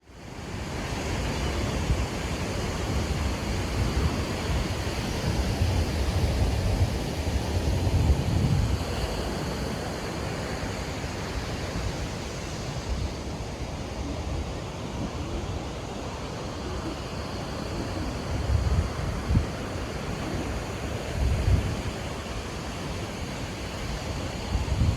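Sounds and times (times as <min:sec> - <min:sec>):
wind buffeting microphone: 0:00.5 - 0:24.9.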